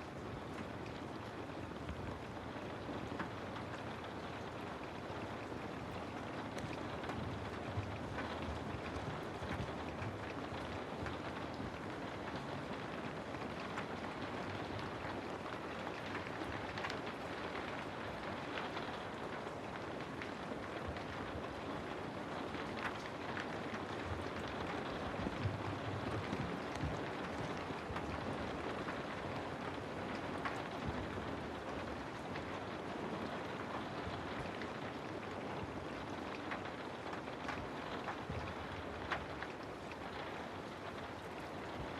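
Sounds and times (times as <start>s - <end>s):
steady rain hiss: 0.0s - 41.9s
raindrops ticking: 0.1s - 41.9s.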